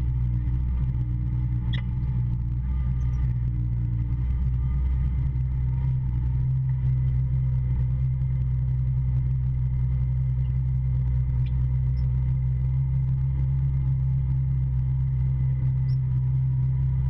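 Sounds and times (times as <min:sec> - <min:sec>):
vehicle engine low drone: 0:00.0 - 0:17.0.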